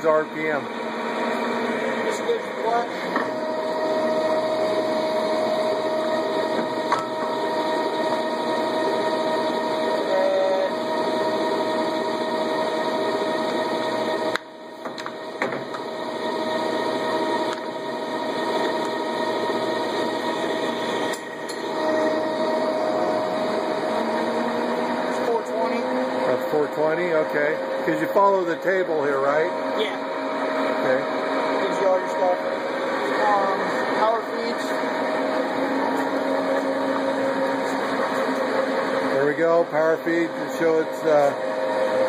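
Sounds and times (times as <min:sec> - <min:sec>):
lathe running with whine: 0:00.0 - 0:42.0.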